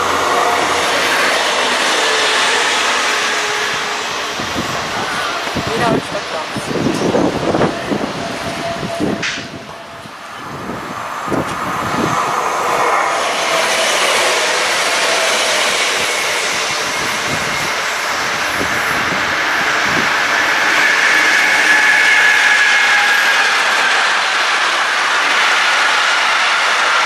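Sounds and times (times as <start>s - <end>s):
train wheels rolling on rail: 0.0s - 27.0s.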